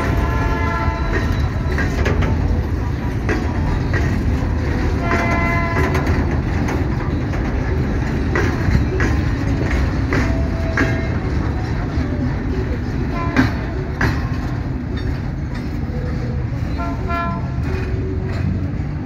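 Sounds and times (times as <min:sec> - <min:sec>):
freight train rumble: 0:00.0 - 0:19.0
wheels clacking over rail joints: 0:00.0 - 0:19.0.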